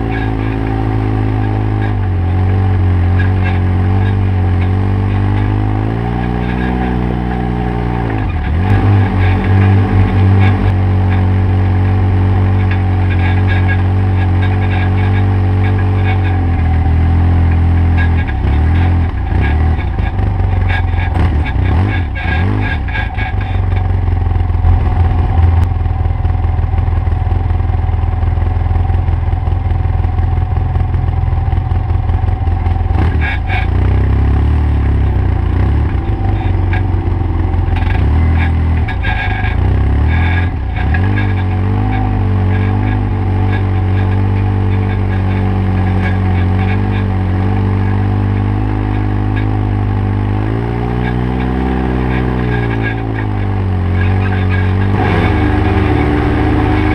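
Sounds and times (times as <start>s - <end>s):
utv engines running: 0.0s - 56.9s.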